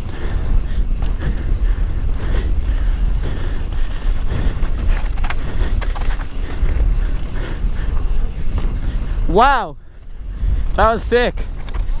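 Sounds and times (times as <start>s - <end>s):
bike clicks and rattles: 0.0s - 12.0s
tyres rumbling on dirt: 0.0s - 12.0s
wind buffeting microphone: 0.0s - 12.0s.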